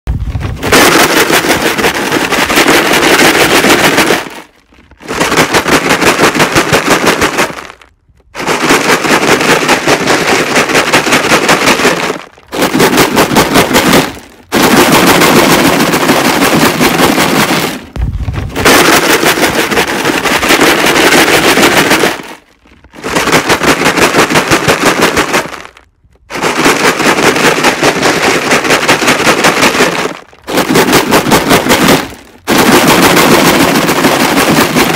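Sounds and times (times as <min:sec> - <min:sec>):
rocks rattling in plastic jug: 0:00.1 - 0:34.9.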